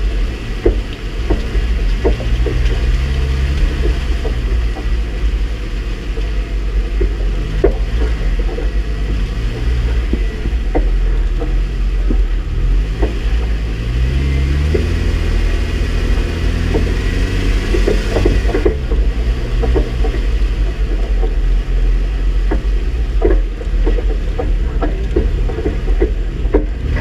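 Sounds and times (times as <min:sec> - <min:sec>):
off-road vehicle engine revving: 0:00.0 - 0:27.0
vehicle knocks and clatters: 0:00.0 - 0:27.0.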